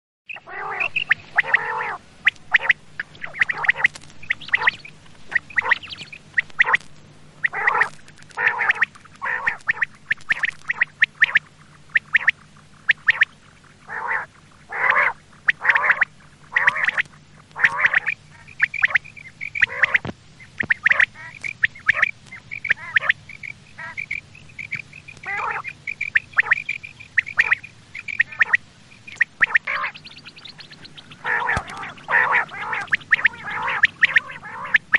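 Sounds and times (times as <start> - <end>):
faint low hum: 0.3 - 34.9
quail calling: 0.3 - 34.9.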